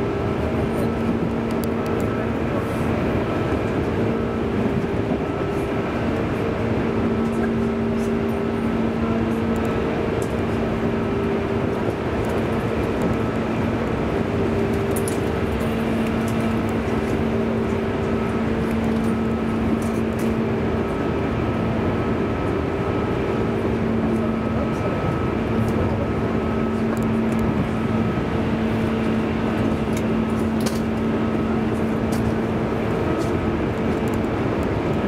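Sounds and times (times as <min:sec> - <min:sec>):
wheels rumbling on rails: 0:00.0 - 0:35.0.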